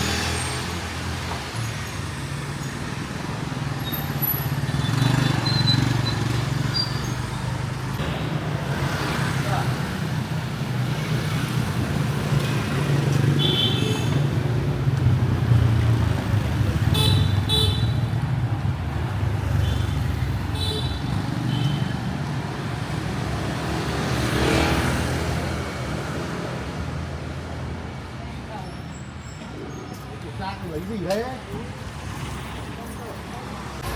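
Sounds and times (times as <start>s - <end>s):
traffic engines rumbling: 0.0s - 33.9s.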